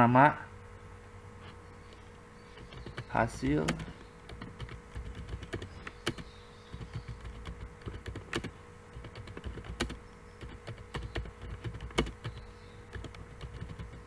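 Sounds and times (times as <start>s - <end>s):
faint steady hum: 0.0s - 14.0s
typing on computer keyboard: 2.6s - 14.0s.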